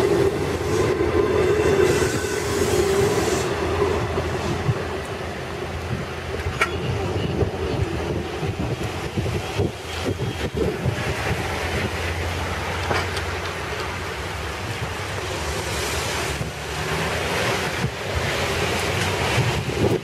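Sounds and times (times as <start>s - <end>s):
train wheels rumbling on rail: 0.0s - 20.0s
wind buffeting microphone: 0.0s - 20.0s.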